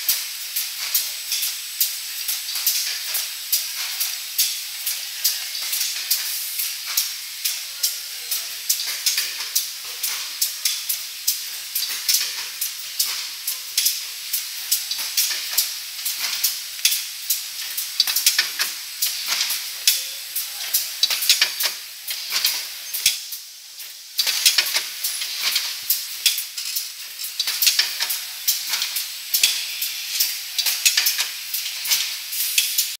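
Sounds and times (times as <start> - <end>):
machine hiss: 0.0 - 32.9
machinery clicking and clattering: 0.1 - 32.9.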